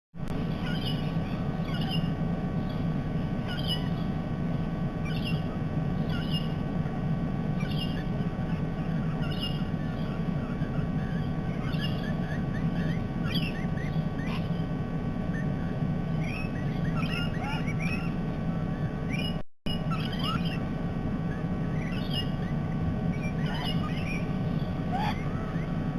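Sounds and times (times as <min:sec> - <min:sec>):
steady low rumble: 0:00.2 - 0:25.9
quick rising bird chirps: 0:00.5 - 0:07.0, 0:07.6 - 0:14.7, 0:15.3 - 0:25.9.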